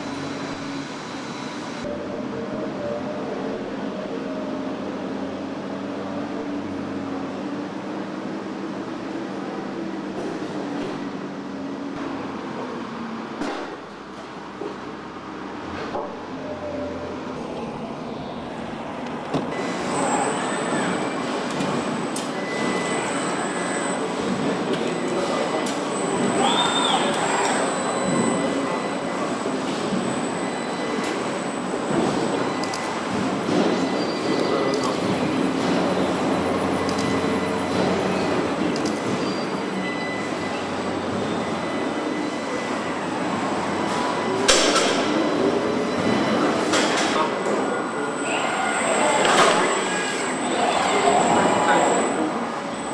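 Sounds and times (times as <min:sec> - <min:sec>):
factory machinery noise: 0:00.0 - 0:52.9.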